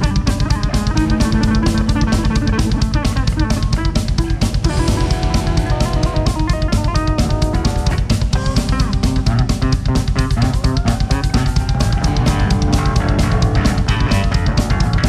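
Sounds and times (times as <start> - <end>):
bass guitar: 0.0 - 15.0
electric guitar: 0.0 - 15.0
rapid drum beat with cymbals: 0.0 - 15.0.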